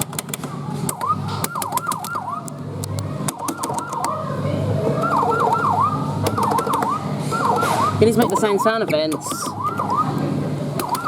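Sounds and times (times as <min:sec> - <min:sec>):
scattered clicks: 0:00.0 - 0:04.2, 0:05.0 - 0:11.0
electronic siren yelps: 0:00.9 - 0:02.6, 0:03.3 - 0:11.0.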